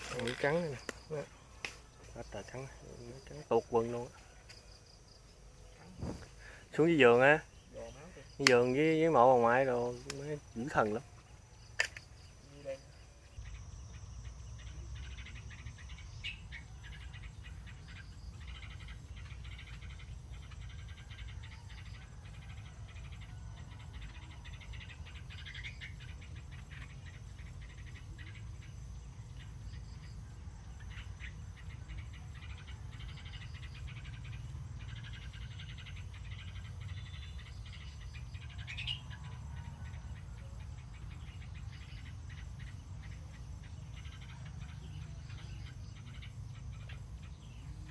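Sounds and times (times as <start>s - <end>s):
faint bird chirps: 0.0s - 47.9s
insect chirping high-pitched: 0.0s - 47.9s.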